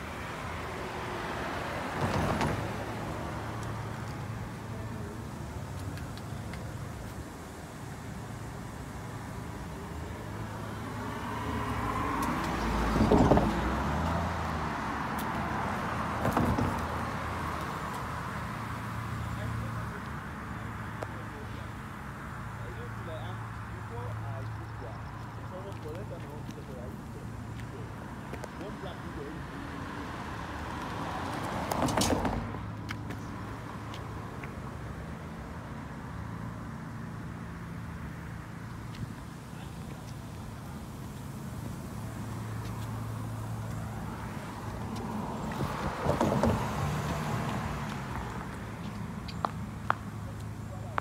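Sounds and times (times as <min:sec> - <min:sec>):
car passing: 0:00.0 - 0:51.0
low hum of motor vehicles: 0:00.0 - 0:51.0.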